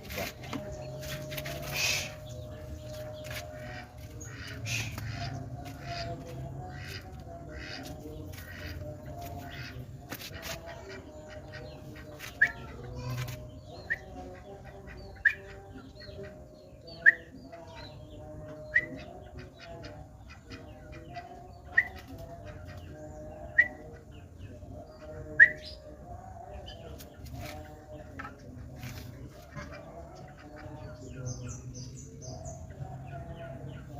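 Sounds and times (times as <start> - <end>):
bird chirping: 0.0 - 33.9.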